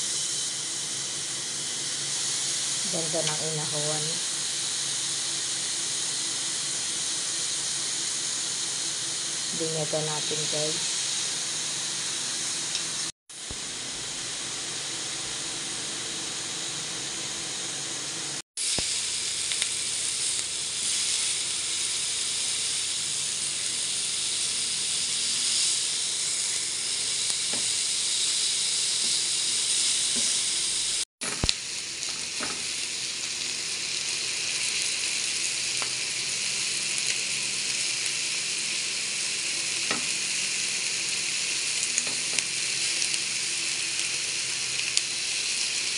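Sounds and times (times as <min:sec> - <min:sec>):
pork sizzling on grill pan: 0:00.0 - 0:45.9.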